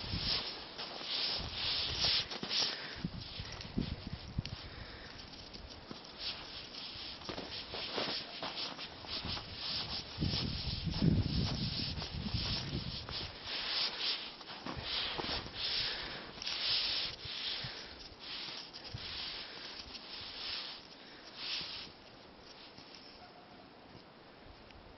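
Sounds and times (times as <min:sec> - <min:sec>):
footsteps crunching through snow: 0:00.0 - 0:23.1.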